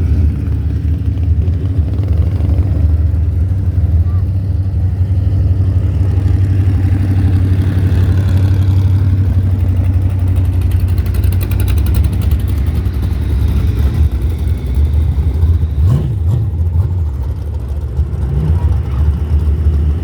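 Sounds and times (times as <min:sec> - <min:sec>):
car engines rumbling: 0:00.0 - 0:20.0
engine revving: 0:00.0 - 0:20.0.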